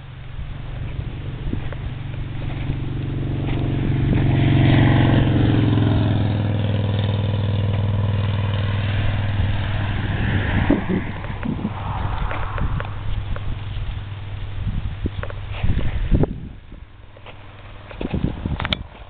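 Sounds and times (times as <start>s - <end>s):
vehicle engine running: 0.0s - 19.0s
wind buffeting microphone: 0.0s - 19.0s.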